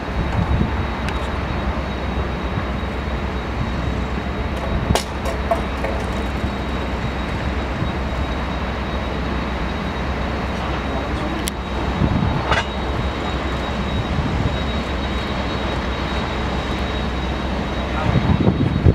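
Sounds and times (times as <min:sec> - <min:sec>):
distant jet engine rumble: 0:00.0 - 0:18.9.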